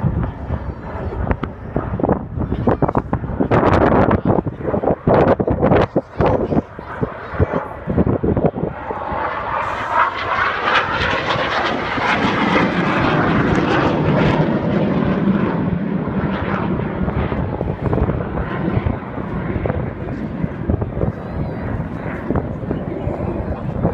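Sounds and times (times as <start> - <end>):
jet aircraft flying by: 0.0 - 23.9.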